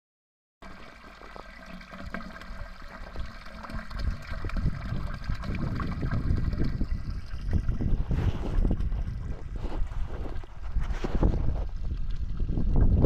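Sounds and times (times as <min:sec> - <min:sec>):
water gurgling and splashing: 0:00.6 - 0:13.0.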